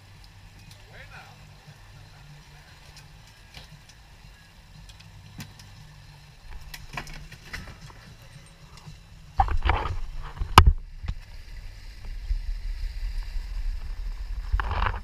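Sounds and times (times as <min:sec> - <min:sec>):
boat engine rumble: 0:00.0 - 0:15.0
water rushing: 0:00.0 - 0:15.0.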